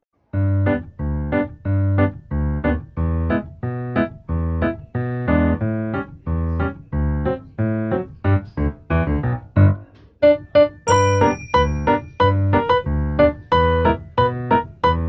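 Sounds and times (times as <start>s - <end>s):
electric piano chords: 0.3s - 15.0s.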